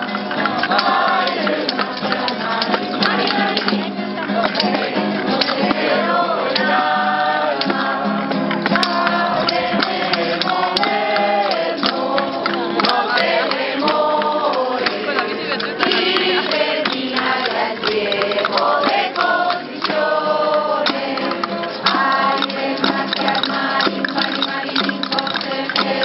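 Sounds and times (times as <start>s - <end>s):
group singing a carol: 0.0s - 26.0s
guitar: 0.0s - 26.0s.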